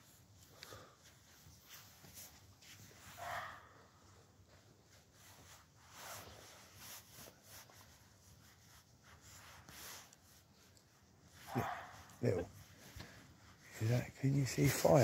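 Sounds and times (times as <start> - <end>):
faint rustles: 0.0 - 15.0.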